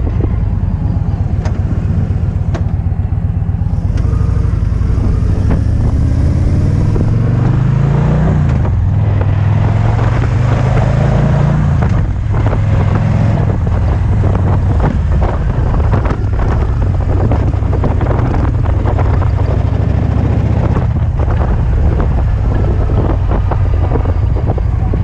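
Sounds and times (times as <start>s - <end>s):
motorcycle engine running: 0.0s - 11.0s, 11.6s - 25.0s
wind buffeting microphone: 0.0s - 25.0s.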